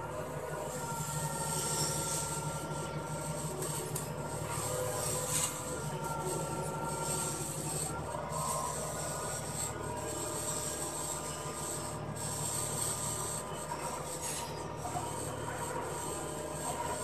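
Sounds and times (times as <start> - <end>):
engine low pulsing hum: 0.0 - 17.0
steady higher whine: 0.0 - 17.0.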